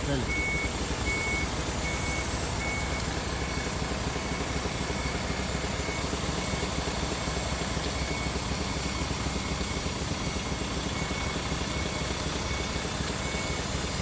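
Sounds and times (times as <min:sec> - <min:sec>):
diesel truck engine running: 0:00.0 - 0:14.0
reversing beeper: 0:00.0 - 0:14.0.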